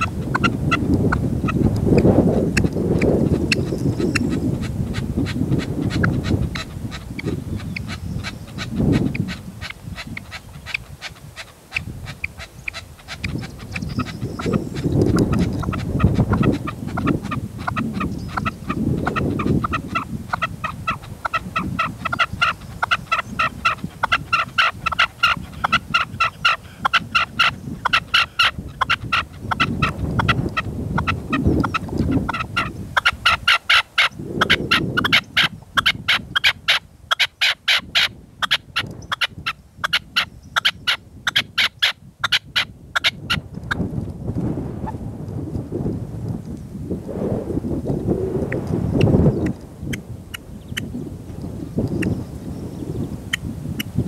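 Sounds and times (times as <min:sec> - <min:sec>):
partridge calling: 0:00.0 - 0:43.4
wind rumble on microphone: 0:00.0 - 0:54.0.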